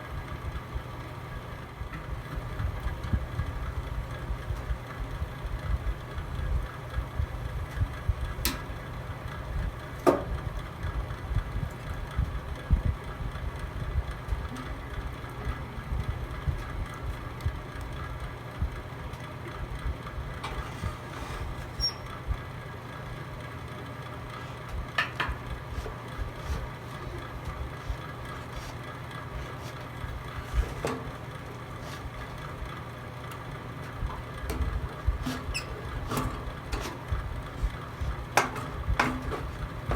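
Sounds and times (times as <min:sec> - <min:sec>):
fire flames rumbling: 0:00.1 - 0:23.3, 0:24.3 - 0:39.9.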